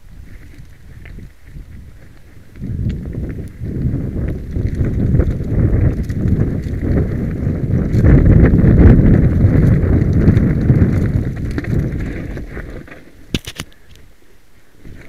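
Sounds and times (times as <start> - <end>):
bike rattling: 0.0 - 13.8
wind on microphone: 0.0 - 14.2, 14.8 - 15.0
tyres crunching over stones: 0.2 - 14.0.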